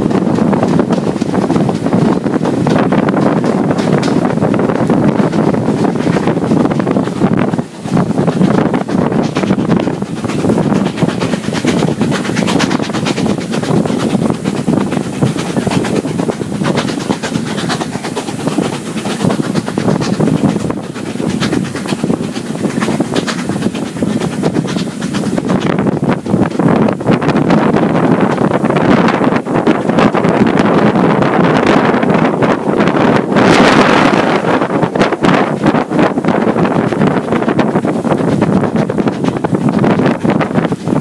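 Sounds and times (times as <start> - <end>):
train wheels clattering on rails: 0.0 - 41.0
wind buffeting microphone: 0.0 - 41.0.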